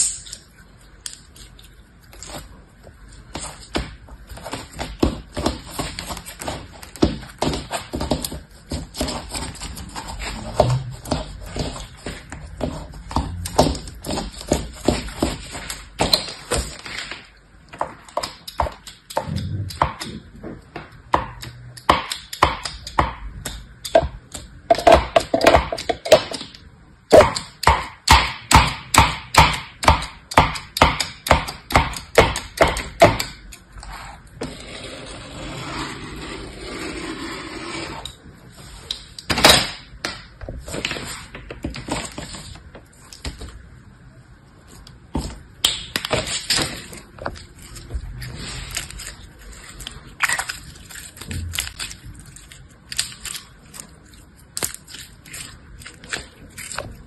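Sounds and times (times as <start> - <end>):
sticky slime noise: 0.0 - 37.8, 38.4 - 57.0.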